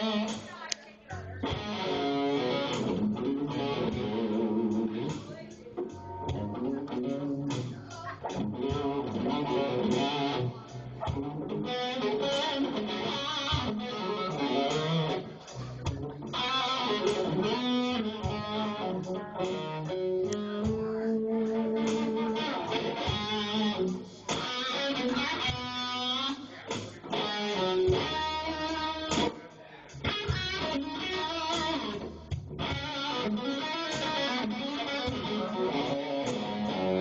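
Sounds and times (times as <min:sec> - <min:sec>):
electric guitar: 0:00.0 - 0:37.0
band playing instrumental: 0:01.4 - 0:37.0.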